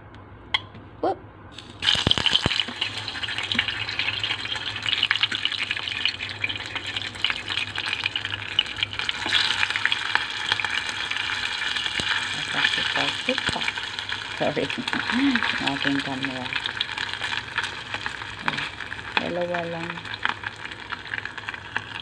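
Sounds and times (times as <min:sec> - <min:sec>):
meat sizzling in hot oil: 0:01.6 - 0:22.0
oil popping: 0:01.6 - 0:22.0.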